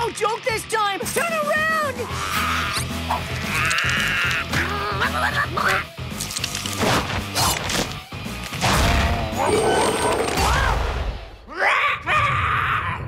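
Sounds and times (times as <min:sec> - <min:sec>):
dramatic music: 0:00.9 - 0:11.5.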